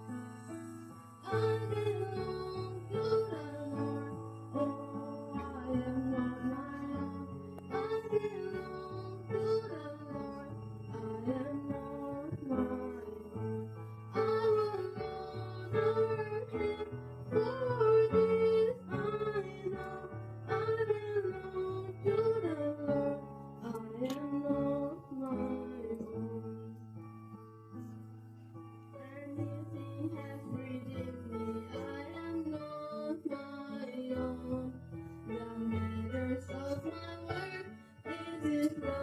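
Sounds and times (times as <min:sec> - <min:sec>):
woman singing: 0:01.2 - 0:26.9, 0:28.9 - 0:39.0.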